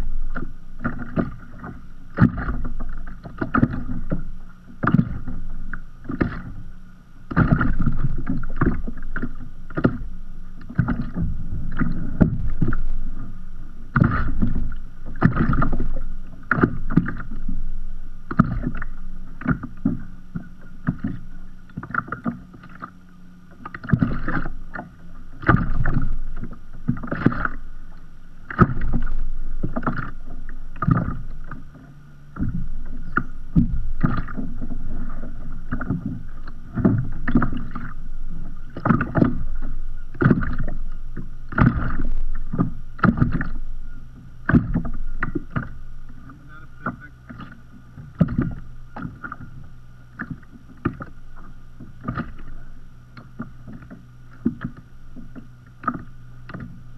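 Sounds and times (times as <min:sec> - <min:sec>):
small waves washing: 0:00.0 - 0:56.9
water slapping kayak hull: 0:00.0 - 0:56.9.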